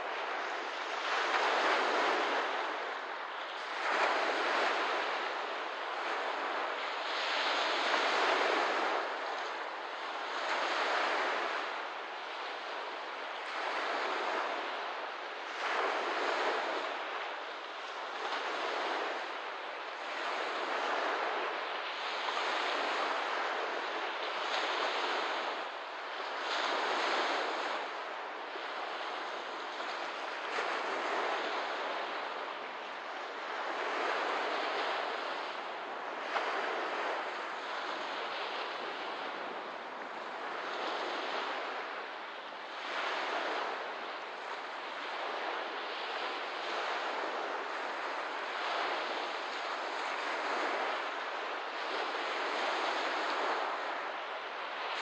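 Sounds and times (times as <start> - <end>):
small waves washing onto shore: 0.0 - 55.0.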